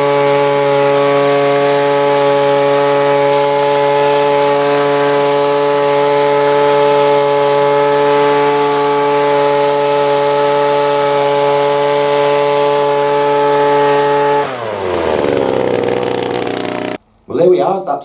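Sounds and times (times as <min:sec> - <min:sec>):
leaf blower engine running: 0:00.0 - 0:17.0.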